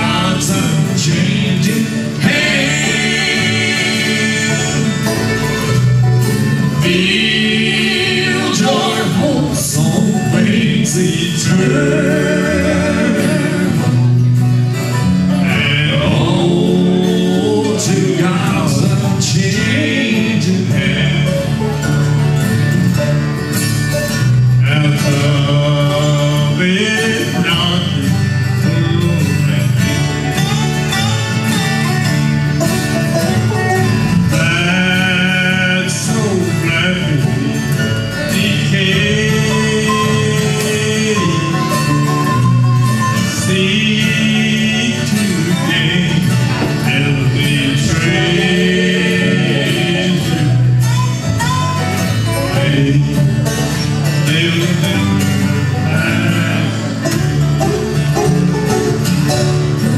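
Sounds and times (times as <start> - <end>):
people singing: 0.0 - 14.2, 15.4 - 21.8, 24.6 - 31.8, 34.3 - 51.1, 52.1 - 57.4
bluegrass band playing: 0.0 - 59.9.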